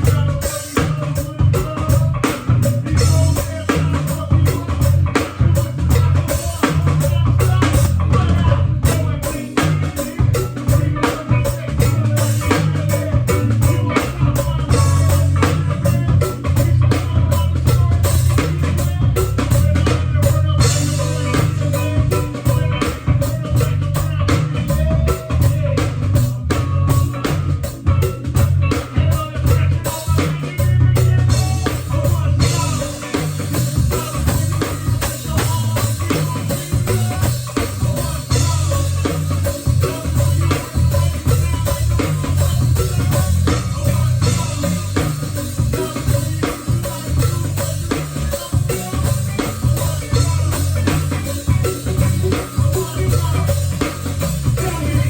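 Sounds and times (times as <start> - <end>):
band playing: 0.0 - 55.0
drum kit beat with cymbals: 0.0 - 55.0.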